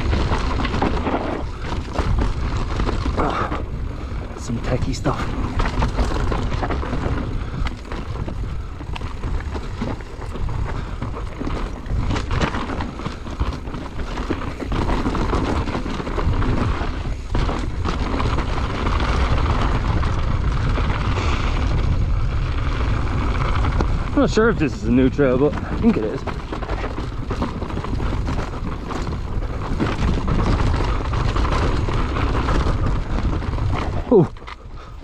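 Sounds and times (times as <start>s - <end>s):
bike rattling clicks and knocks: 0.0s - 35.0s
tyres rolling on gravel: 0.0s - 35.0s
wind buffeting microphone: 0.0s - 35.0s.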